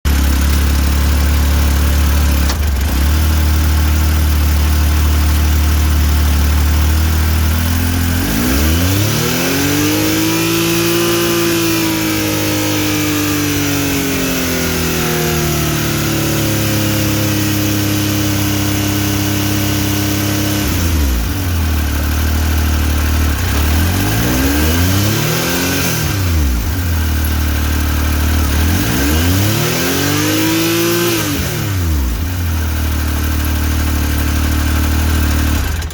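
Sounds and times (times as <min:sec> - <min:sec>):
engine revving: 0:00.1 - 0:35.9.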